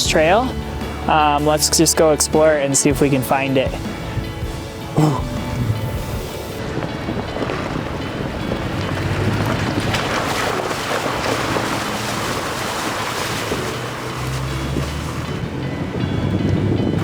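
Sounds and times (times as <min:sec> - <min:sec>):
water rushing and splashing: 0:00.0 - 0:17.0
vehicle engine running low: 0:03.1 - 0:17.0.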